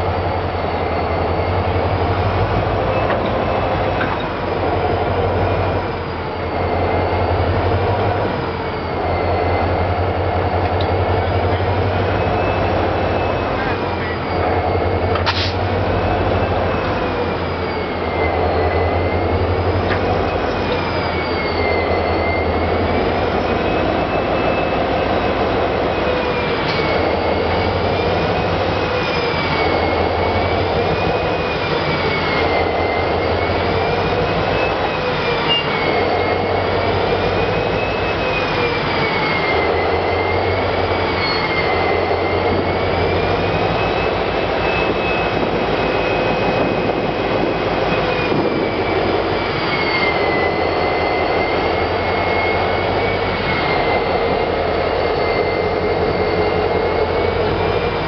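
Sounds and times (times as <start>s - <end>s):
steam locomotive rumble: 0.0s - 58.0s
thin squeal: 0.0s - 58.0s.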